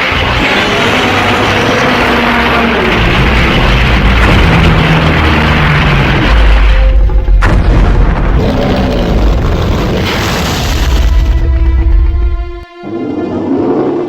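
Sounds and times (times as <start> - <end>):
sharp crash: 0.0 - 11.4
deep booms and rumbling: 0.0 - 12.6
loud battle soundtrack music: 0.0 - 13.2.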